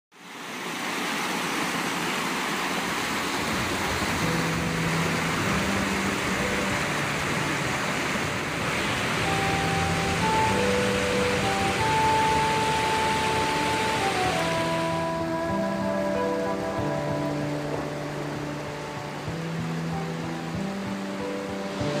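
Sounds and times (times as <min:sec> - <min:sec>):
creek water rushing over rocks: 0:00.2 - 0:22.0
faint held musical notes: 0:03.5 - 0:22.0.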